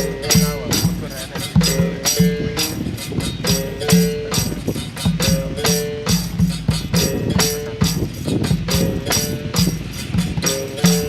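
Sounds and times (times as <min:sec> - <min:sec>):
drum strokes: 0:00.0 - 0:11.0
tambourine jingles: 0:00.0 - 0:11.0.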